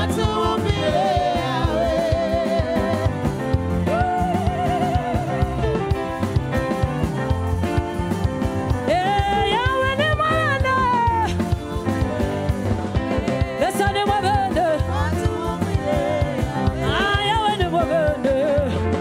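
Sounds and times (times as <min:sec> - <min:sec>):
drums keeping a steady beat: 0:00.0 - 0:19.0.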